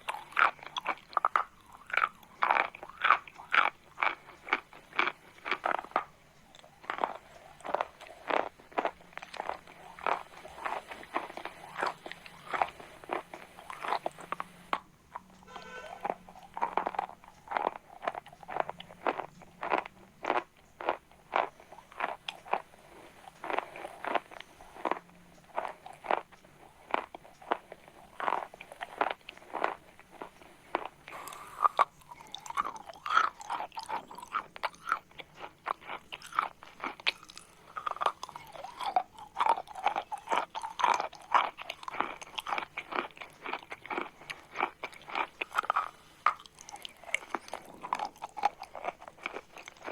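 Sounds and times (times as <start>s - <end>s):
chalk being chewed: 0.0s - 49.9s.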